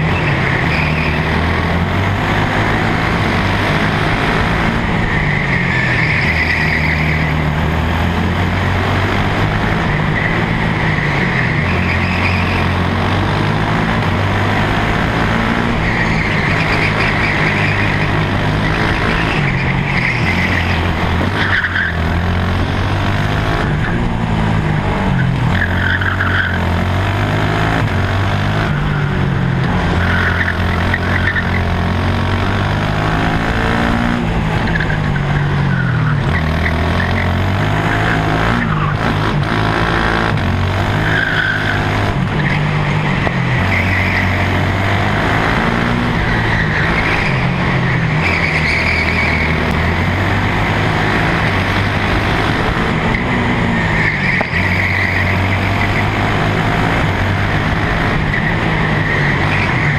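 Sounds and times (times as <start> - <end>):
kart engine shifting gears: 0.0 - 59.9.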